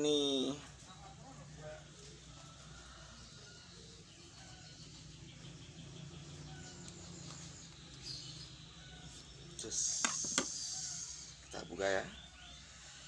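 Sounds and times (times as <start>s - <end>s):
faint chirps: 0.0s - 13.0s.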